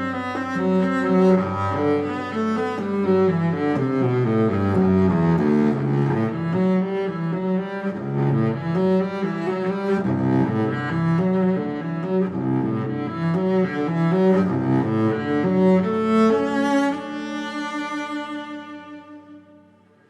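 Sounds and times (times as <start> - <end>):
instrumental music: 0.0 - 20.0.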